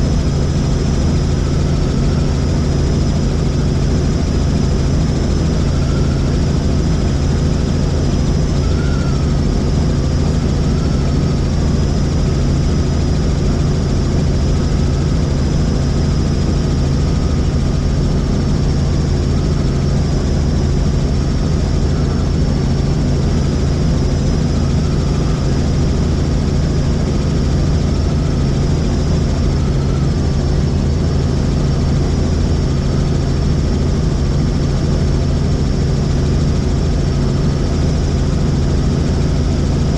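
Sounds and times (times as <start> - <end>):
helicopter rotor drone: 0.0 - 39.9
high wavering whine: 0.0 - 39.9.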